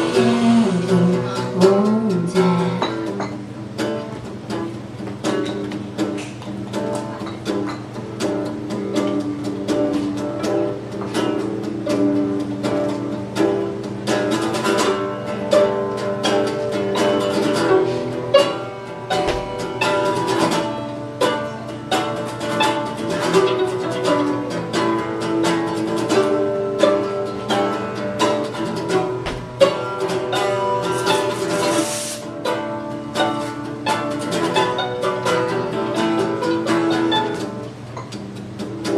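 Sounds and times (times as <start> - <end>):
electric guitar picking and strumming: 0.0 - 38.9
second string instrument: 0.0 - 38.9.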